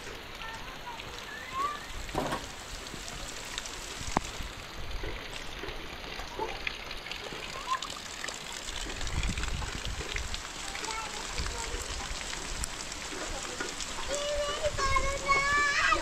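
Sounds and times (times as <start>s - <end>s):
steady rain: 0.0s - 16.0s
dripping ticks: 2.8s - 15.8s.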